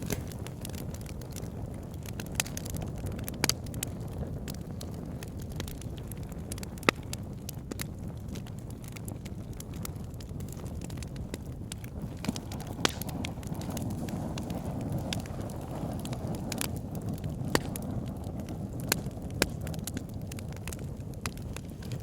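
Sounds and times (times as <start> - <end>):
burning wood popping: 0.0 - 22.0
campfire flame rushing: 0.0 - 22.0
fire crackling: 0.0 - 22.0.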